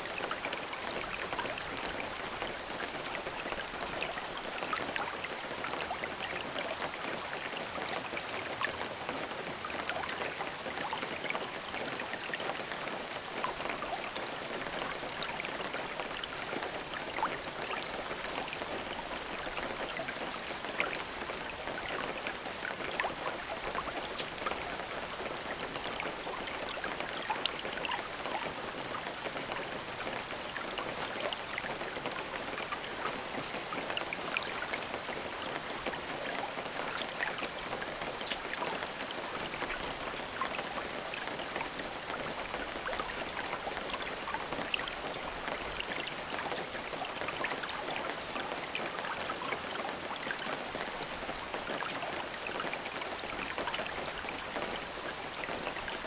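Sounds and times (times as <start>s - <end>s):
rain drops pattering on surface: 0.0s - 56.0s.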